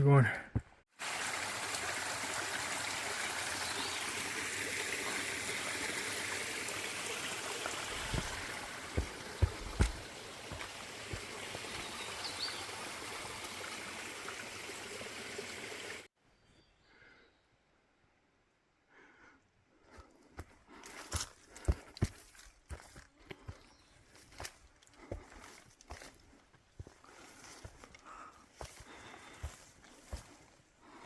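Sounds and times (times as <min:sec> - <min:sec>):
stream running: 0:00.9 - 0:16.1, 0:20.8 - 0:31.0.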